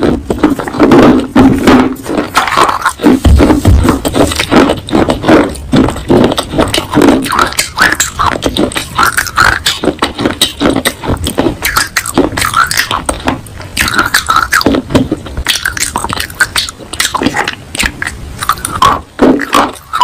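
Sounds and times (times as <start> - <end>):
crunching and chewing clay: 0.0 - 20.0.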